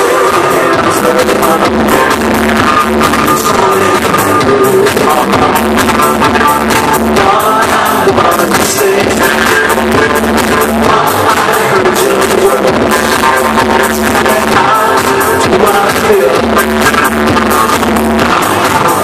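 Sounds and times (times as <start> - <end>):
live band music over pa: 0.0 - 19.0.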